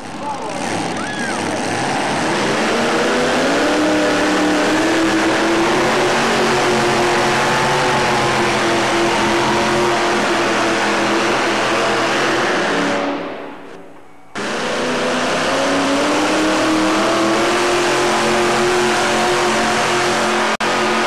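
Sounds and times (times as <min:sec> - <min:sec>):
engine at high revs: 0:00.0 - 0:13.8, 0:14.4 - 0:21.0.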